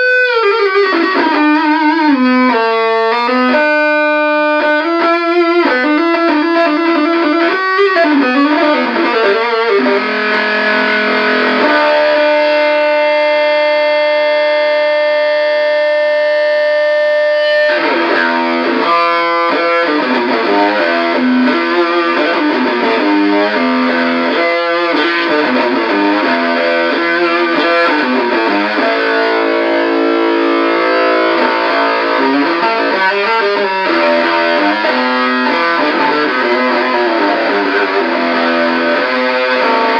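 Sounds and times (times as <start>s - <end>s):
fuzz electric guitar: 0.0s - 39.9s.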